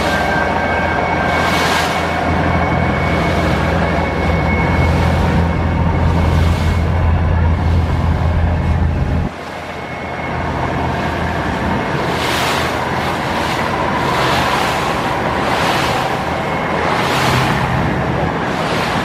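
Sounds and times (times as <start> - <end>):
faint engine hum: 0.0 - 19.0
heavy low drone: 0.0 - 19.0
rushing water: 0.0 - 19.0.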